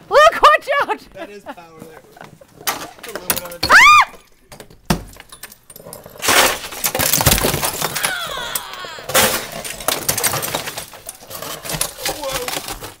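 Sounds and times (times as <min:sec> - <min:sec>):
icicles crashing and shattering: 0:02.5 - 0:13.0.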